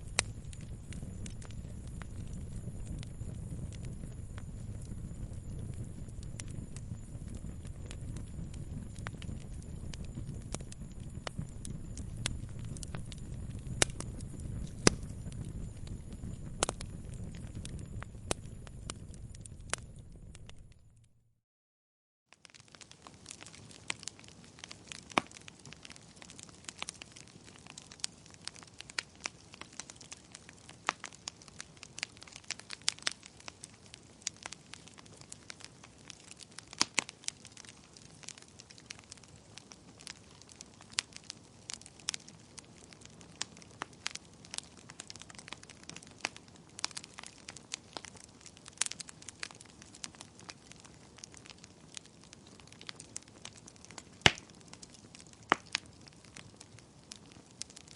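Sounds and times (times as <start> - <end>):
wood fire crackling: 0.0 - 21.1, 22.3 - 57.9.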